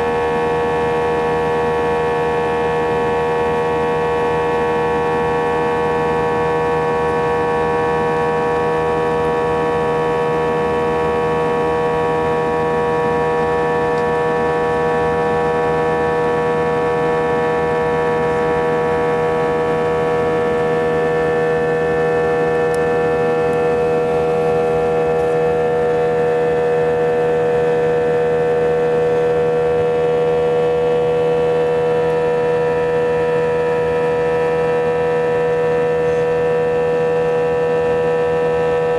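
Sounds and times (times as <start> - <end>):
jet engines droning in cabin: 0.0 - 38.9.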